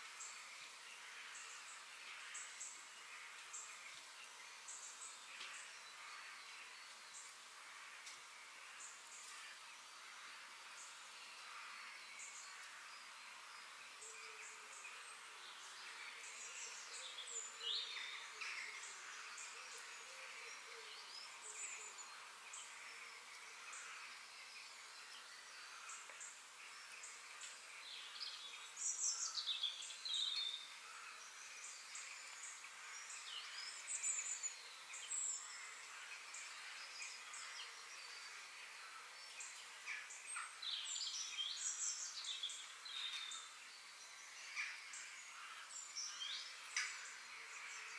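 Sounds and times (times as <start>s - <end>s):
faint steady hiss: 0.0s - 47.9s
forest birds singing and calling: 0.0s - 47.9s.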